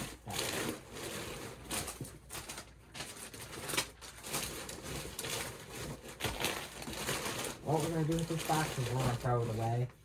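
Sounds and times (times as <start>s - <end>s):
packing paper crinkling: 0.0s - 10.0s.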